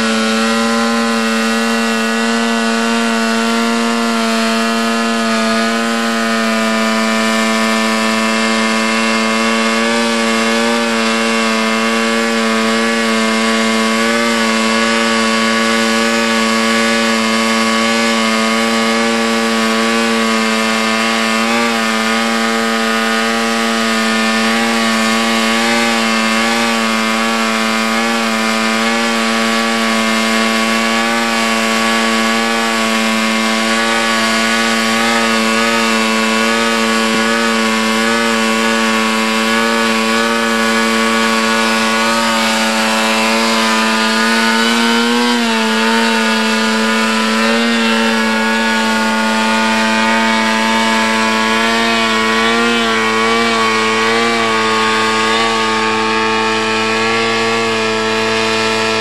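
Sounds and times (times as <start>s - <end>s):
model aircraft propeller buzzing: 0.0s - 59.0s.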